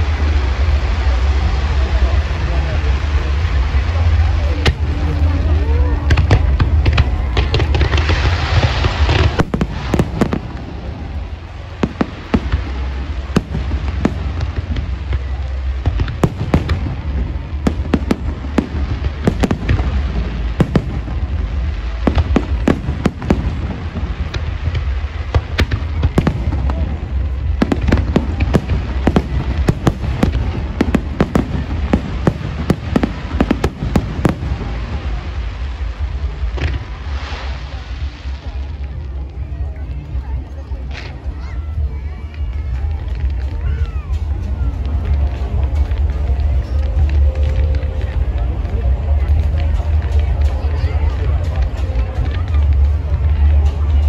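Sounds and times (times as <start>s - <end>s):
fireworks bangs and crackles: 0.0s - 54.0s
hissing crackle: 0.0s - 54.0s
low rumble: 0.0s - 54.0s.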